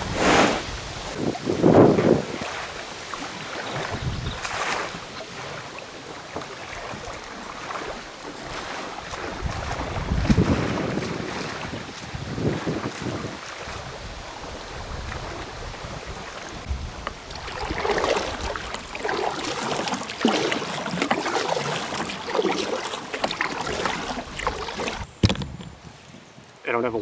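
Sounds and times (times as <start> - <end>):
steady water noise: 0.0 - 27.0
water slapping against kayak hull: 0.8 - 25.6.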